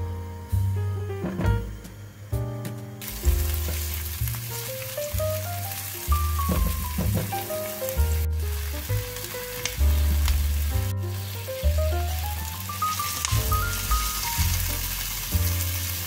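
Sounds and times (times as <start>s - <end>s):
light instrumental music: 0.0s - 16.0s
vegetables sizzling in oil: 3.0s - 16.0s.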